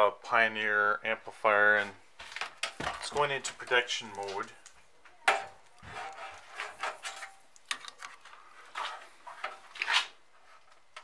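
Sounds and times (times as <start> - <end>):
rustling: 1.8 - 11.0.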